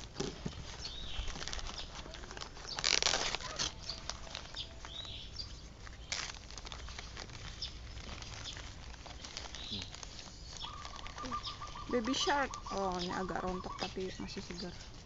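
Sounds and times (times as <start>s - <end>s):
plant packaging rustling: 0.0s - 15.0s
bird chirping: 0.7s - 2.0s, 2.6s - 14.8s.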